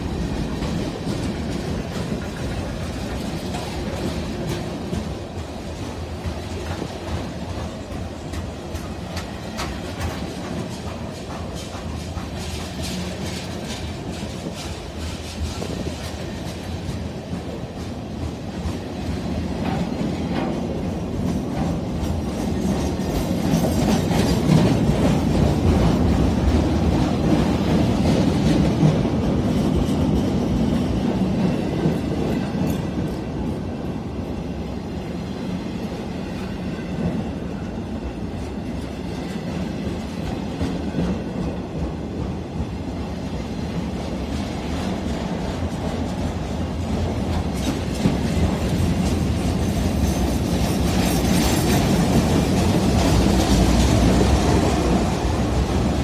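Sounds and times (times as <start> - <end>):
freight train cars rumbling: 0.0 - 56.0.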